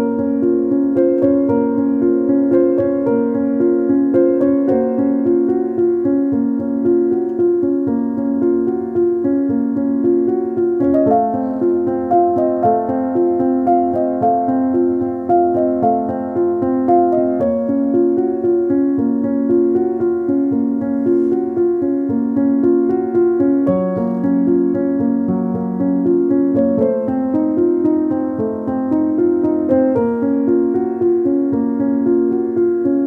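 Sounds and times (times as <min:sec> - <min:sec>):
piano melody: 0:00.0 - 0:33.0.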